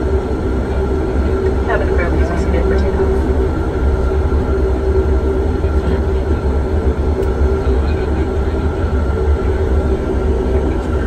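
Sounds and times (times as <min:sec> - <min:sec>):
engine and propeller drone: 0:00.0 - 0:11.0.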